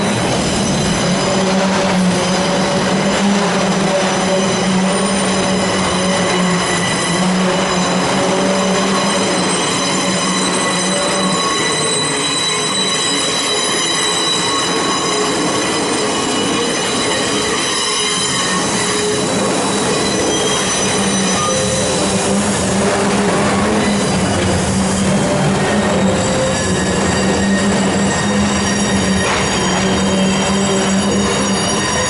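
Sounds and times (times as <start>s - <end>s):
train rumble: 0.0s - 32.0s
train wheels squealing on rails: 0.0s - 32.0s.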